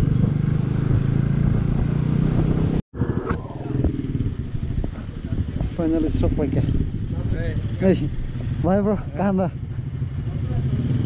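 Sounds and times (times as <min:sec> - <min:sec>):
motorcycle engine running: 0:00.0 - 0:11.0
road and wind noise: 0:00.0 - 0:11.0
traffic noise: 0:00.0 - 0:11.0.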